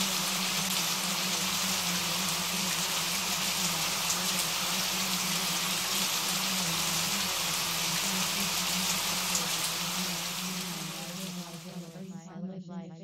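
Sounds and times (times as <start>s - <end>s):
rain drop ticks: 0.0s - 11.8s
steady rain hiss: 0.0s - 12.2s.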